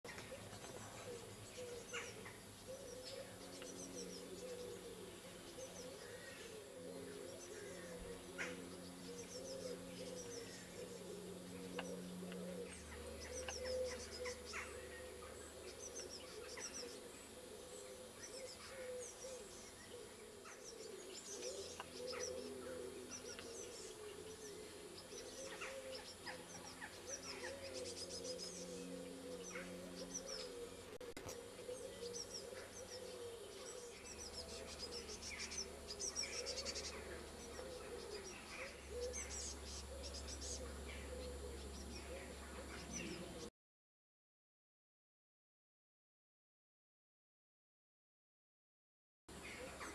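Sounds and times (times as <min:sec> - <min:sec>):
fledgling birds chirping: 0:00.0 - 0:43.5, 0:49.3 - 0:49.9.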